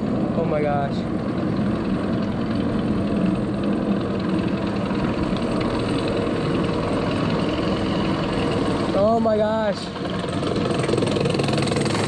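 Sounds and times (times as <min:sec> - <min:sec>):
roller coaster rumbling: 0:00.0 - 0:12.0.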